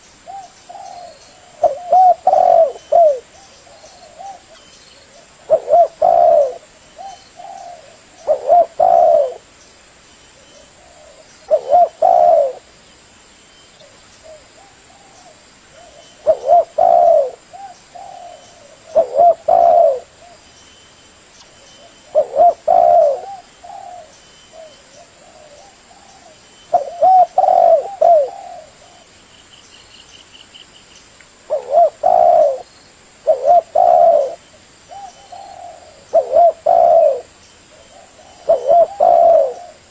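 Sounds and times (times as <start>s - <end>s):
dove cooing: 0.0s - 9.5s, 10.4s - 12.7s, 13.8s - 20.4s, 21.8s - 29.2s, 31.5s - 39.9s
small birds chirping: 0.0s - 39.9s.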